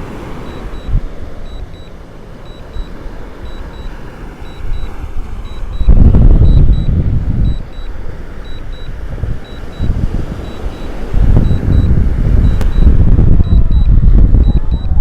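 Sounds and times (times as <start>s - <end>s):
wind buffeting microphone: 0.0s - 15.0s
faint high double beep: 0.4s - 15.0s.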